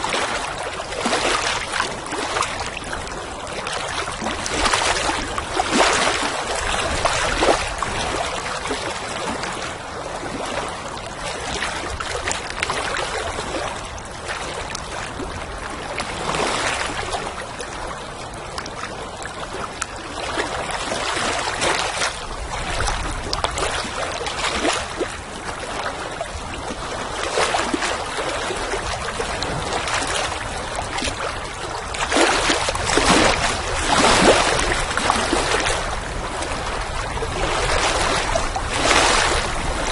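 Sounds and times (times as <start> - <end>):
water lapping and splashing: 0.0 - 39.9
wind rumble: 0.0 - 39.9.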